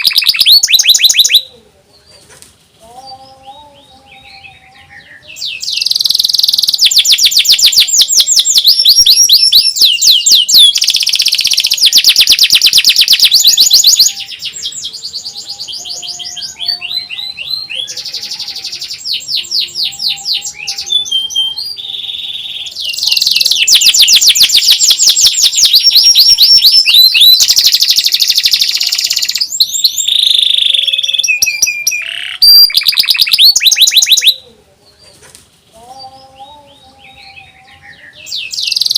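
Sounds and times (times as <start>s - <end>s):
canary singing fast trills: 0.0s - 2.2s, 3.0s - 35.1s, 35.9s - 38.9s.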